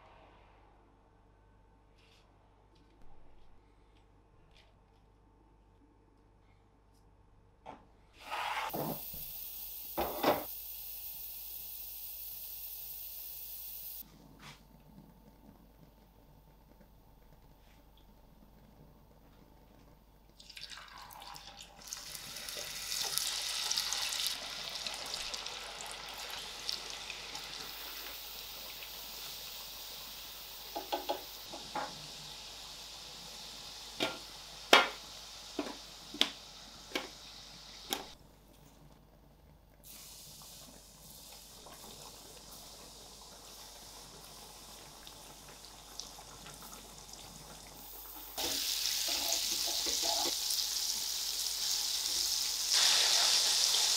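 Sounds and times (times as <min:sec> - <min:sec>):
oil sizzling and bubbling: 0:08.2 - 0:53.9.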